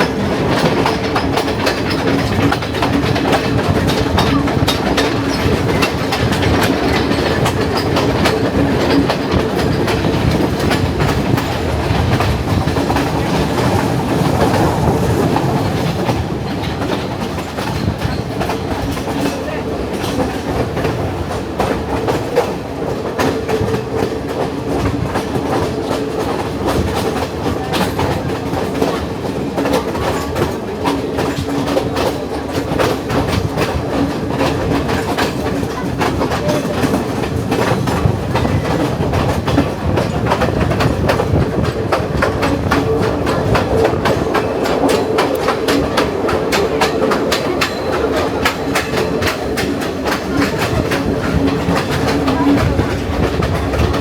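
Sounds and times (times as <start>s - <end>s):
train low drone: 0.0s - 54.0s
train wheels clicking over rail joints: 0.0s - 54.0s.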